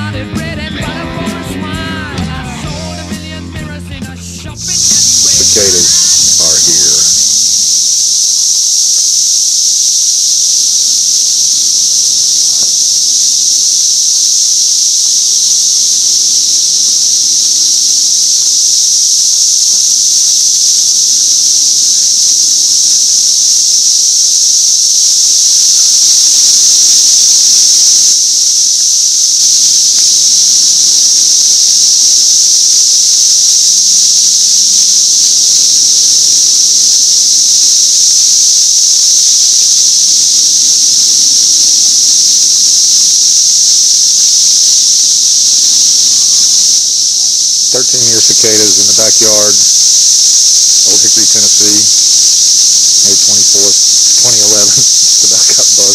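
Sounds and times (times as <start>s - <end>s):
cicadas droning: 0.0s - 55.9s.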